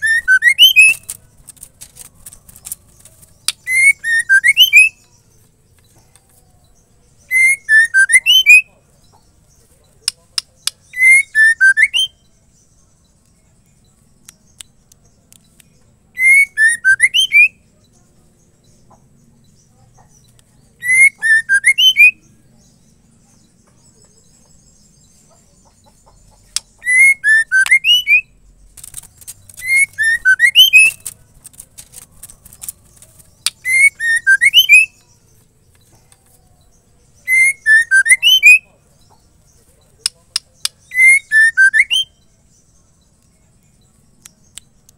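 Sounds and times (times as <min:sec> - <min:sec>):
bird whistled call with chatter: 0:00.0 - 0:44.9.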